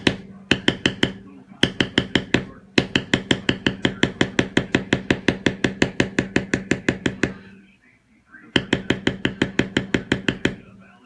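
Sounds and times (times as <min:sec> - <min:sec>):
mallet tapping leather stamping tool: 0:00.0 - 0:07.4, 0:08.6 - 0:10.8.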